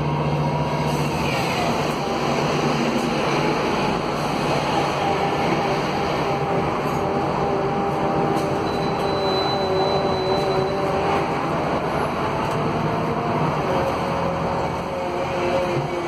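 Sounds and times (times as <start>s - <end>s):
bus diesel engine rumble: 0.0s - 16.0s.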